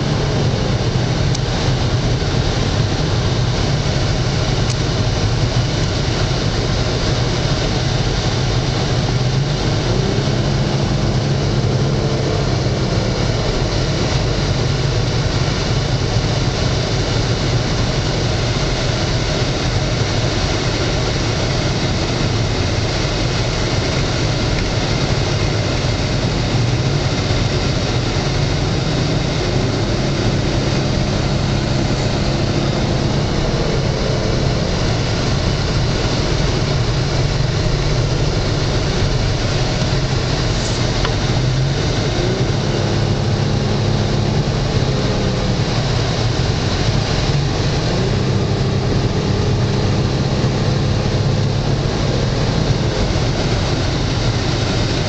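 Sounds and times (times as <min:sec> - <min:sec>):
car engine from inside cabin: 0:00.0 - 0:55.0
road noise: 0:00.0 - 0:55.0.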